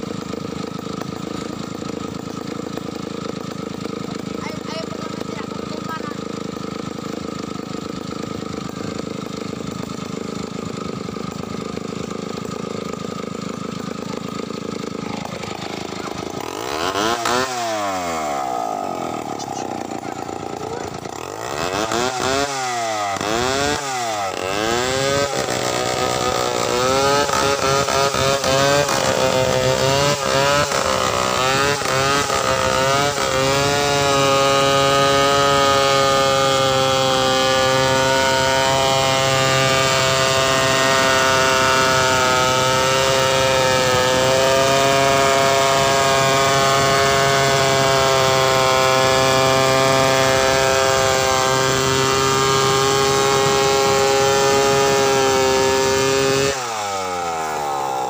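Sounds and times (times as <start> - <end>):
chainsaw revving and cutting wood: 0.0 - 58.0.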